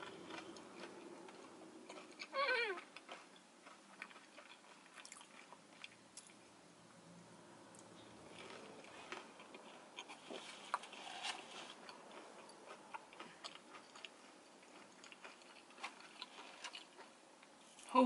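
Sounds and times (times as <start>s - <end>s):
wet chewing mouth sounds: 0.0s - 6.4s, 8.4s - 17.1s.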